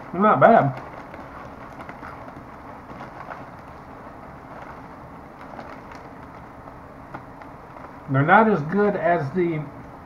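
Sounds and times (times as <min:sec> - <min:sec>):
chip bag crinkling: 0:00.0 - 0:09.0
low room noise: 0:00.0 - 0:10.0.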